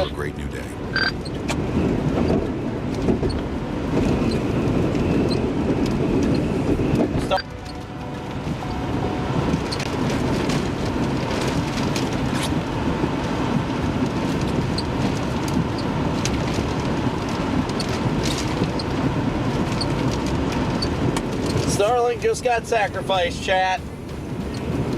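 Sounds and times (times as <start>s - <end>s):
storm wind and rain: 0.0s - 24.9s.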